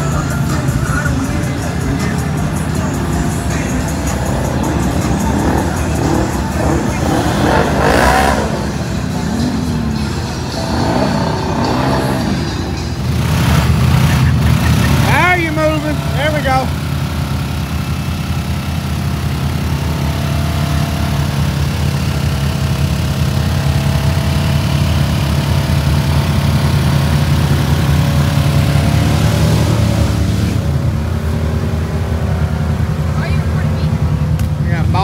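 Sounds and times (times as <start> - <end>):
off-road engines running: 0.0 - 35.0.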